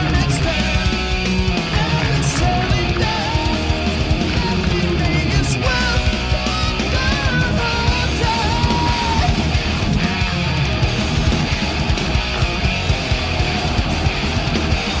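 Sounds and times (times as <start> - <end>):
high melodic guitar line: 0.0 - 15.0
metal band playing live: 0.0 - 15.0.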